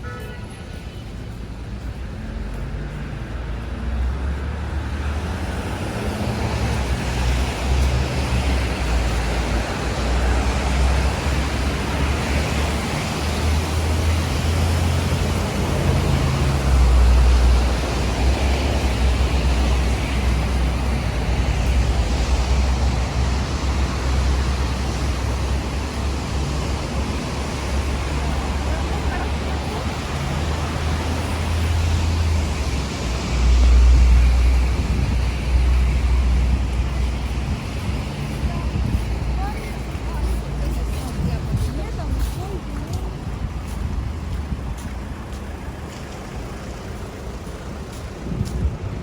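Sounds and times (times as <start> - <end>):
city street traffic roar: 0.0 - 49.0.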